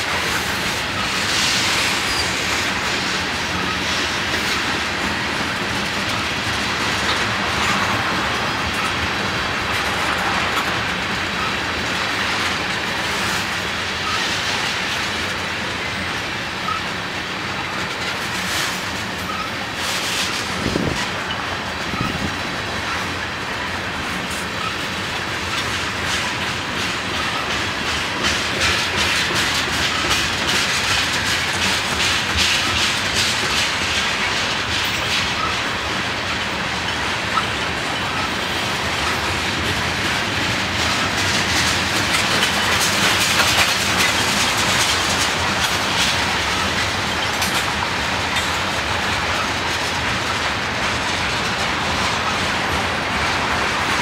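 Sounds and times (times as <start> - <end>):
train wheels rumbling on rail: 0.0 - 54.0
wheels clacking over rail joints: 0.0 - 54.0.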